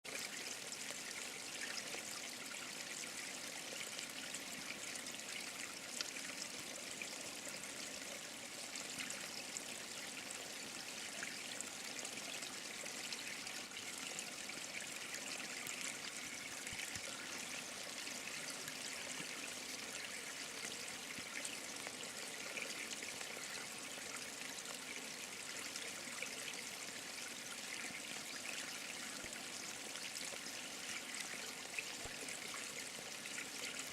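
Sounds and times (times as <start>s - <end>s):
stream running over rocks: 0.1s - 33.9s.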